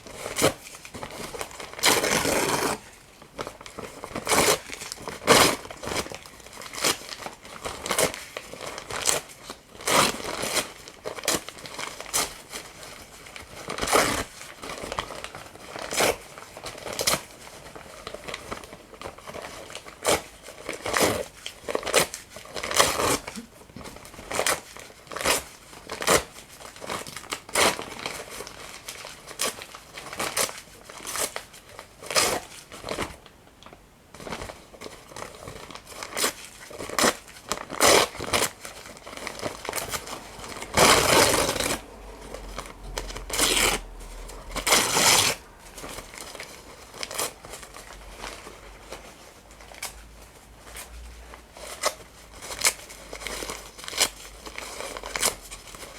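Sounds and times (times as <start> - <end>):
paper crinkling and tearing: 0.0 - 33.2, 34.1 - 55.9.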